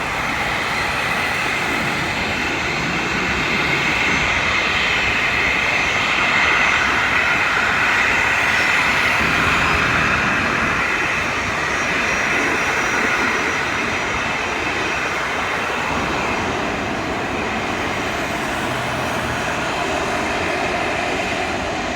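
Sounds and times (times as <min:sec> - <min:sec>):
faint high engine whine: 0:00.0 - 0:21.9
jet engines roaring: 0:00.0 - 0:21.9.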